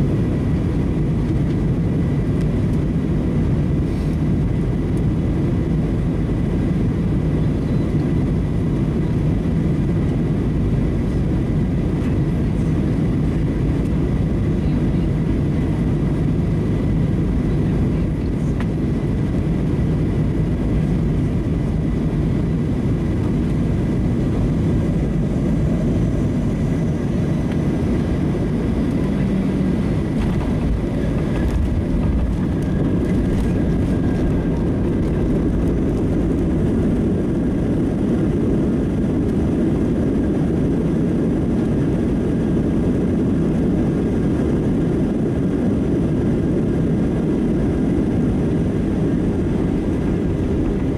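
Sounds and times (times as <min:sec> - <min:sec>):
jet engine rumble and rushing air: 0:00.0 - 0:50.9.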